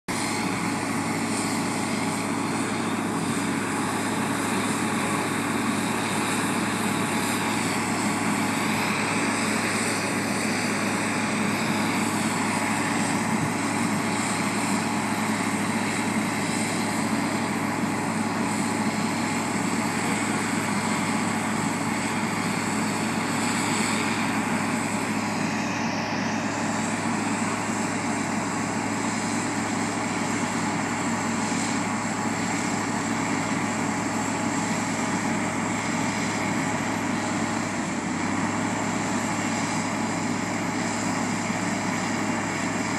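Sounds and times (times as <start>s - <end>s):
heavy diesel engines under load: 0.1s - 42.9s.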